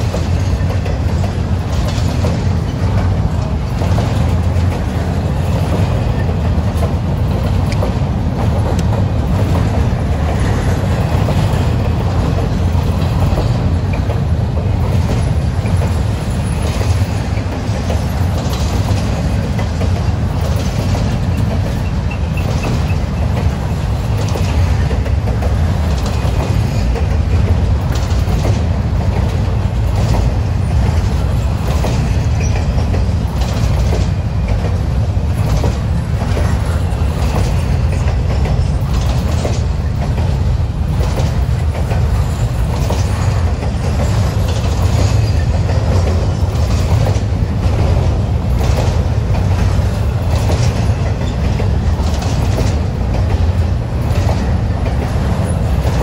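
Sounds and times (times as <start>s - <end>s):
freight train rumbling past: 0.0s - 56.0s
wheels clicking over rail joints: 0.0s - 56.0s.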